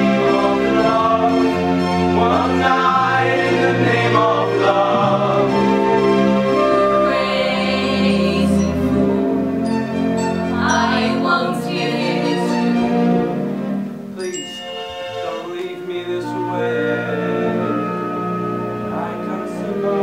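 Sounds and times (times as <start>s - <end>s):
choir singing in harmony: 0.0s - 13.7s, 15.1s - 20.0s.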